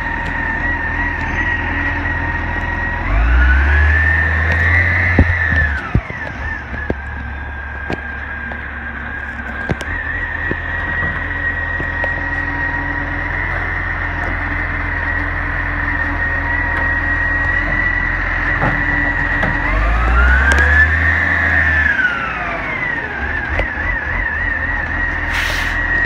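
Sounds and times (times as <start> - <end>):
diesel engine running: 0.0 - 26.0
hydraulic whine: 0.0 - 26.0.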